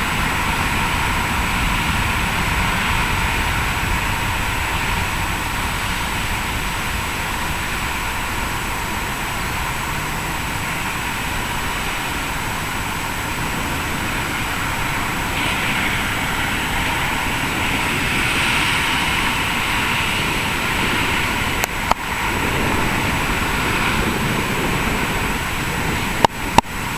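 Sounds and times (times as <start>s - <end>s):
jet engines rushing: 0.0s - 26.9s.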